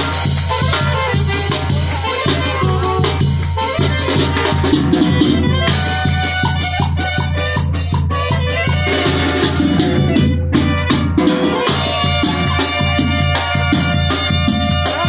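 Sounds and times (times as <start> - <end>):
drums: 0.0 - 15.0
saxophone: 0.0 - 15.0
steady bass line: 0.0 - 15.0.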